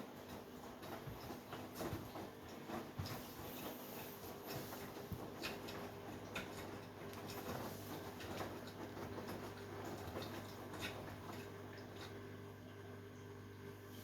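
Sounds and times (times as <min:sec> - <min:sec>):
washing machine motor hum: 0:00.0 - 0:14.0.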